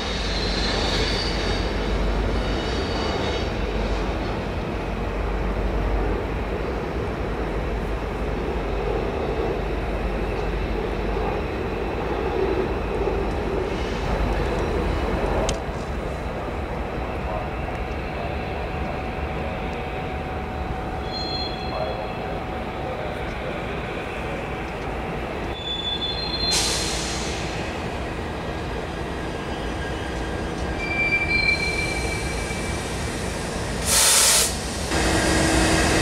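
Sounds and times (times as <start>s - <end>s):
diesel locomotives: 0.0s - 36.0s.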